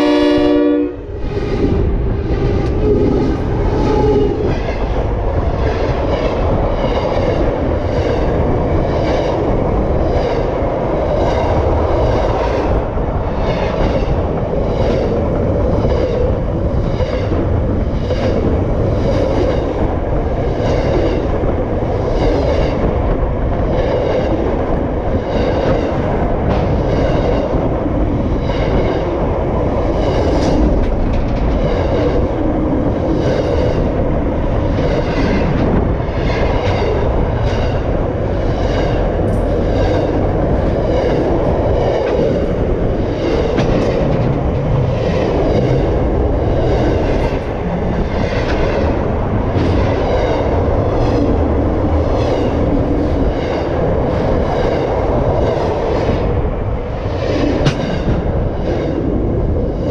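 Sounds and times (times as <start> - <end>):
freight train rumbling overhead: 0.0 - 59.9
train wheels clacking on track: 1.2 - 59.9.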